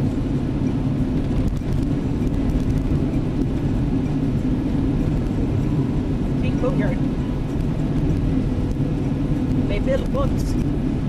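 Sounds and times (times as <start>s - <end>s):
car engine hum: 0.0s - 11.0s
tyres rumbling on rough road: 0.0s - 11.0s.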